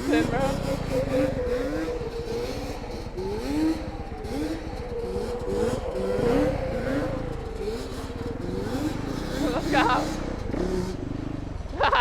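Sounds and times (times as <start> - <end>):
dirt bike engine revving: 0.0 - 11.8
engine droning: 0.0 - 12.0.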